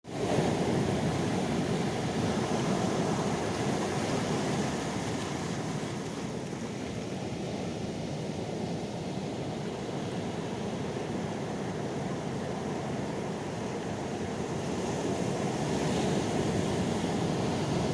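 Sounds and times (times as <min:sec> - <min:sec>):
calm sea waves: 0:00.1 - 0:17.9.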